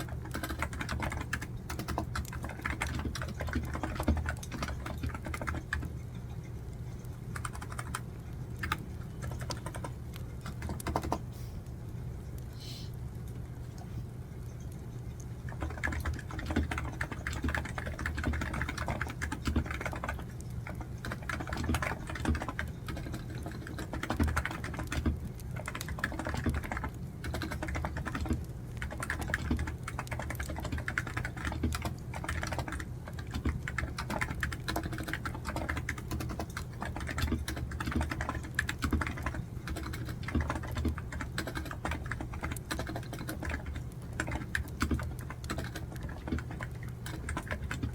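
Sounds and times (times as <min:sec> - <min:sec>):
fast typing on a keyboard: 0:00.0 - 0:11.3, 0:15.4 - 0:47.9.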